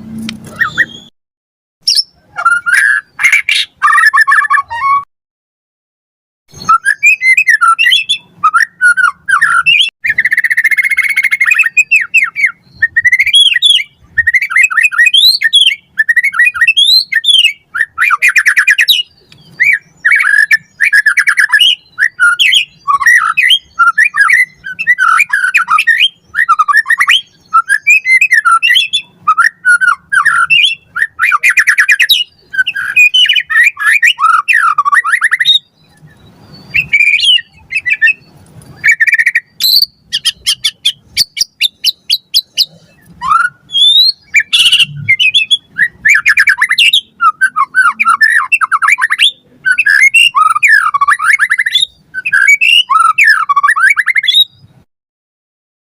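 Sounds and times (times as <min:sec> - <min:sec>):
bird singing whistled phrases: 0:00.5 - 0:01.1, 0:01.8 - 0:05.1, 0:06.5 - 0:54.8.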